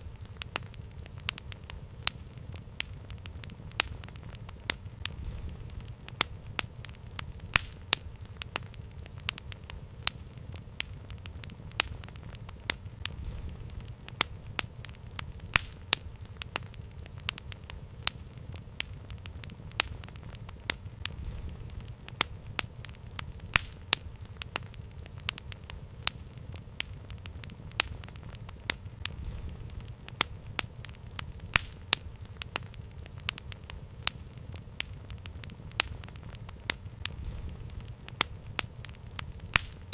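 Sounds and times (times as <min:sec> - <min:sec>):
burning wood popping and snapping: 0:00.0 - 0:39.9
low rumble of flames: 0:00.0 - 0:39.9.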